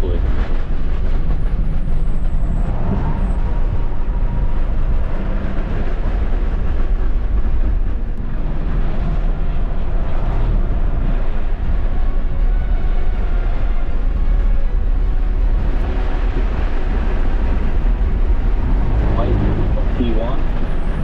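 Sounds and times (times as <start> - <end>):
car cabin road and wind noise: 0.0 - 21.0.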